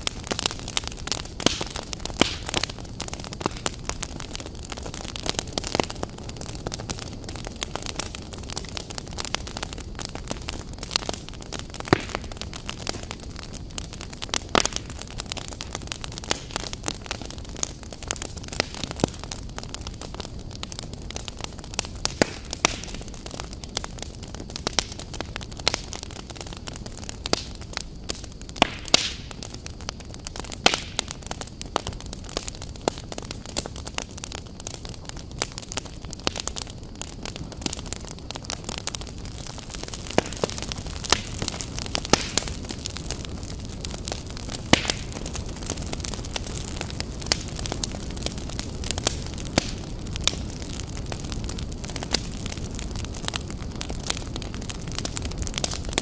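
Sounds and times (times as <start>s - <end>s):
logs crackling and popping: 0.0s - 56.0s.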